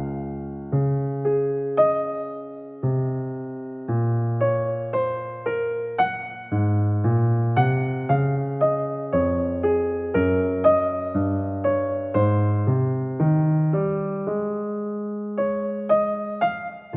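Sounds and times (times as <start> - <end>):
slow gentle piano music: 0.0 - 16.9.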